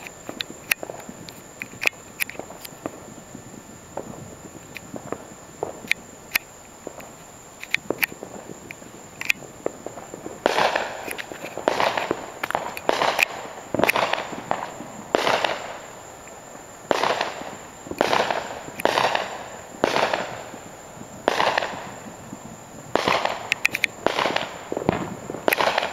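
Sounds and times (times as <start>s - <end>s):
crackling pops: 0.0s - 25.9s
fireworks bangs: 0.0s - 25.9s.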